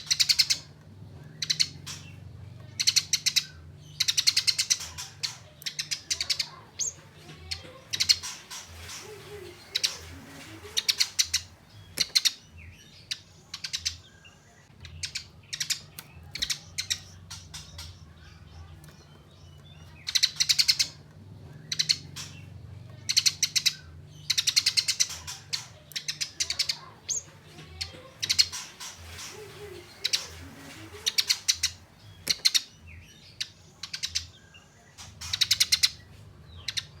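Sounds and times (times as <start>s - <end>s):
sparrow harsh chattering call: 0.0s - 14.0s, 19.8s - 37.0s.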